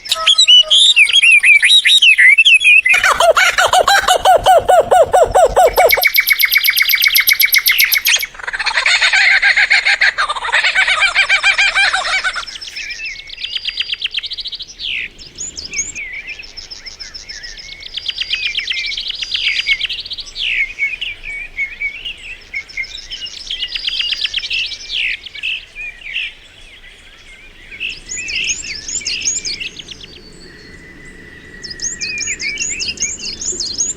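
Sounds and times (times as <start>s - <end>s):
birds singing and calling: 0.0s - 33.9s.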